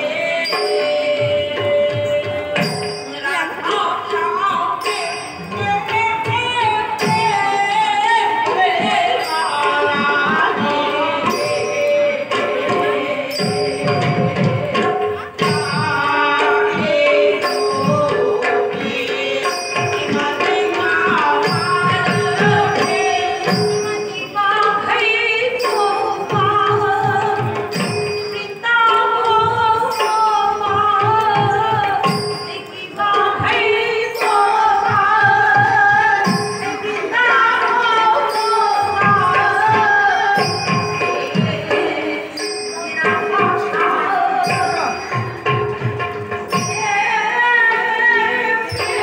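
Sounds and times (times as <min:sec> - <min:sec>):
ringing cymbals: 0:00.0 - 0:49.0
woman singing: 0:00.0 - 0:49.0.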